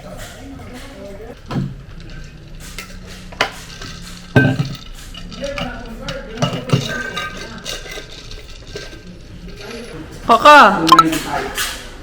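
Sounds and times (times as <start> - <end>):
dishes and cutlery clattering: 0.0 - 10.2.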